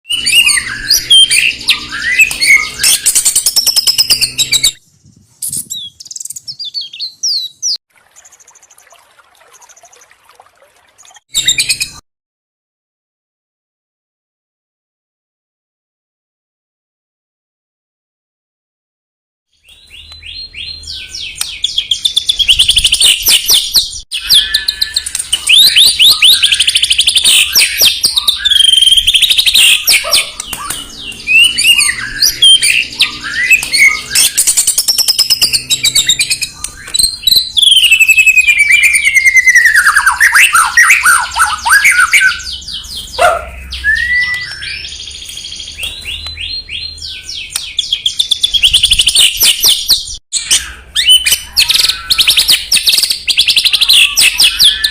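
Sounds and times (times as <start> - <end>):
bird singing trills and whistles: 0.1 - 8.8, 11.0 - 12.0, 19.5 - 54.9.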